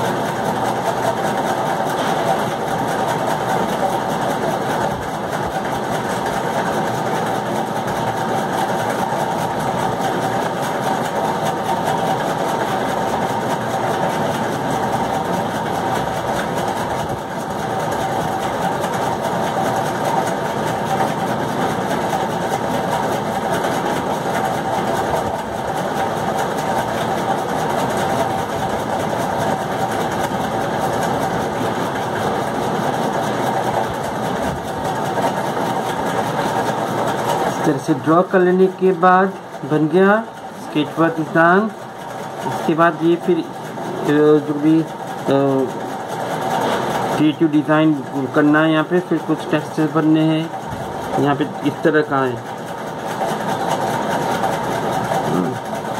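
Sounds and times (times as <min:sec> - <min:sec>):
motor humming: 0:00.0 - 0:55.9.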